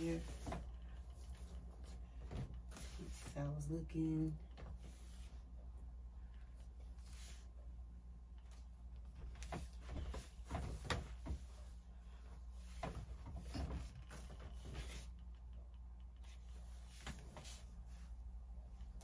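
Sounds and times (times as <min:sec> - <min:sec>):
soft knocks and rustles of clothing: 0:00.0 - 0:19.0
steady low hum: 0:00.0 - 0:19.0.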